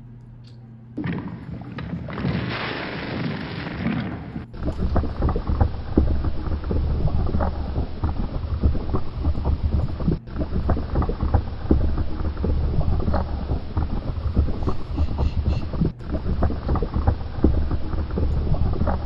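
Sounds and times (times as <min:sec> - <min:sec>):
rumbling crackling bubbling eruption: 0:01.0 - 0:19.0.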